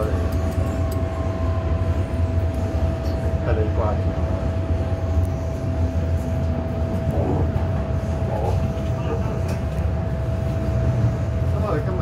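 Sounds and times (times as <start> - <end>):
metro train wheels rumbling: 0.0 - 12.0
train whine: 0.0 - 12.0.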